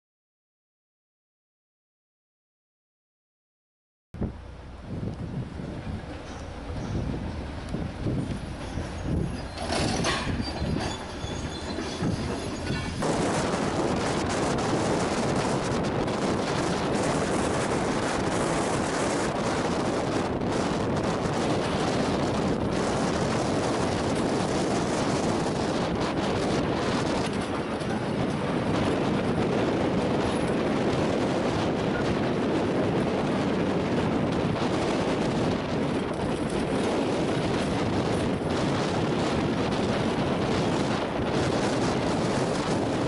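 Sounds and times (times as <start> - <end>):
excavator running under load: 4.3 - 43.0.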